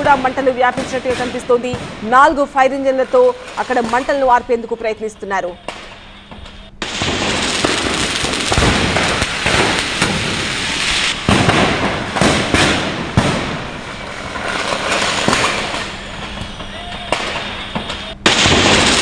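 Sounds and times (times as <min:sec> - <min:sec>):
firecrackers crackling and banging: 0:00.0 - 0:05.0, 0:05.6 - 0:19.0.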